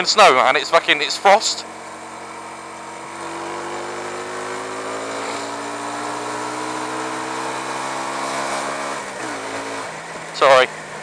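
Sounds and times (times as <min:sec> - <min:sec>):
motorcycle engine accelerating: 0:00.3 - 0:11.0.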